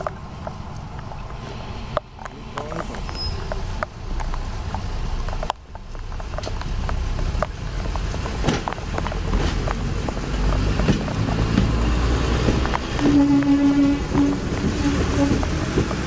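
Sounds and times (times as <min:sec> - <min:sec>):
diesel railcar engine rumble: 0:00.0 - 0:16.0
sharp clicks and knocks: 0:00.0 - 0:16.0
wind buffeting microphone: 0:00.0 - 0:16.0.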